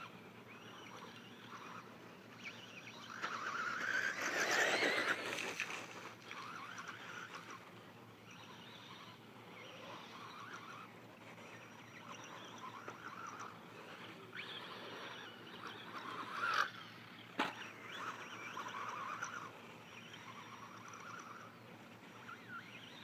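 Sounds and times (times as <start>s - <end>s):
electric rc car motor surging: 0.0s - 23.0s
faint high whine: 0.0s - 23.0s.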